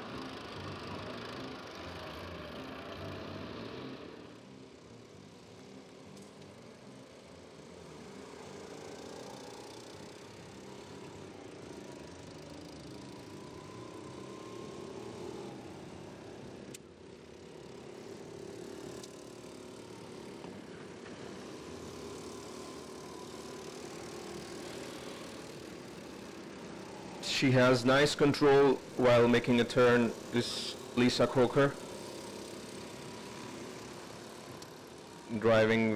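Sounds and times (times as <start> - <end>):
go-kart engines buzzing: 0.0 - 35.9.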